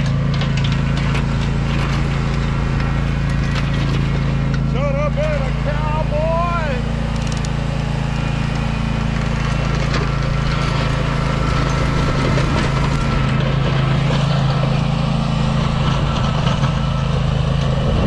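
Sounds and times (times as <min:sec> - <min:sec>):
mower engine running: 0:00.0 - 0:18.0.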